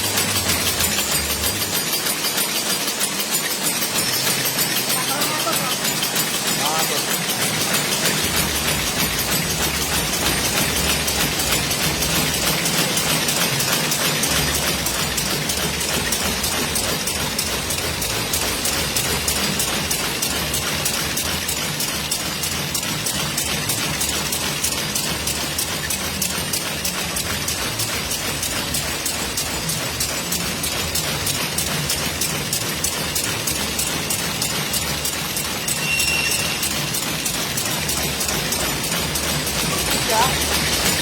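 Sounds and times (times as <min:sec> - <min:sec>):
packing machine clatter: 0:00.0 - 0:41.0.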